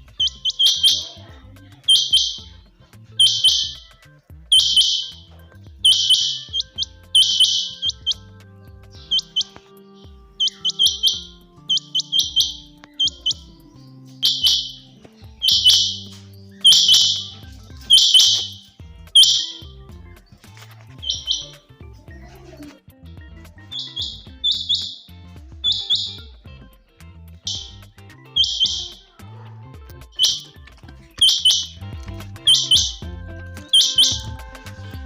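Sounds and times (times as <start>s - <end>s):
quail calling: 0.0s - 21.7s, 23.6s - 26.3s, 27.4s - 29.1s, 30.1s - 35.0s.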